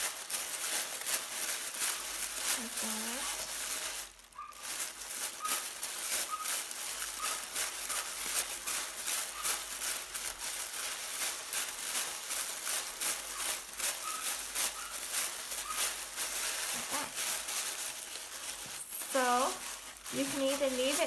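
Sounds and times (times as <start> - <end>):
tissue paper rustling: 0.0 - 21.0.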